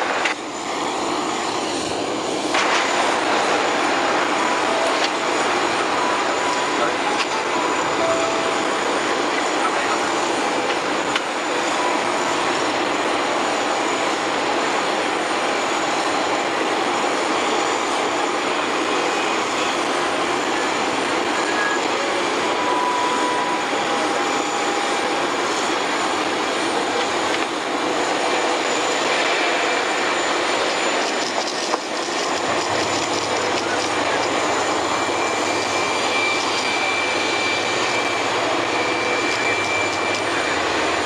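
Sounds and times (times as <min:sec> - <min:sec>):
loud rushing cabin noise: 0:00.0 - 0:41.0.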